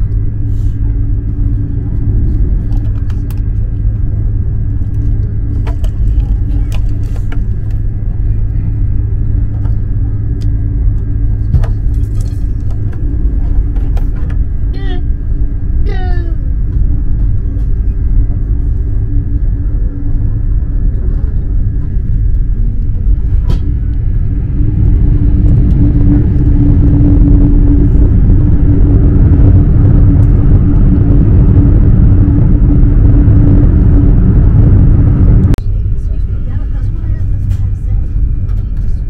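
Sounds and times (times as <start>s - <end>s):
constant hum: 0.0s - 39.0s
train rumbling: 0.0s - 39.0s.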